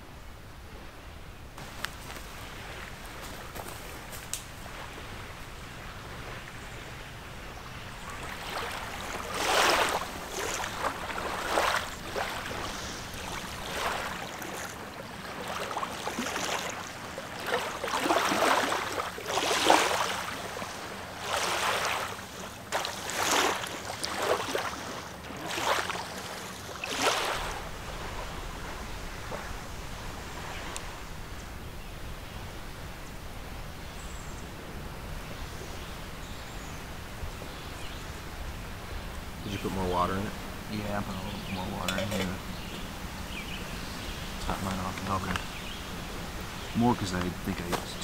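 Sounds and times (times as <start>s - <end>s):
faint steady hiss: 0.0s - 48.0s
small waves washing on shore: 0.0s - 48.0s.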